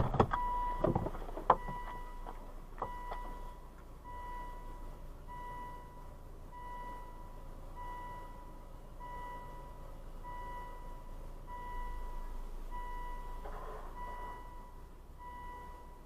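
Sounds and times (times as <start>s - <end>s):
car warning chime beeping: 0.0s - 16.0s.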